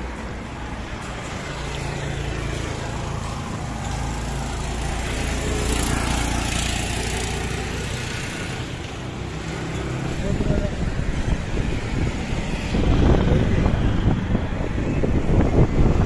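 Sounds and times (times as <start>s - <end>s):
small motorcycle engines: 0.0s - 16.0s
vehicle passing close: 0.0s - 16.0s.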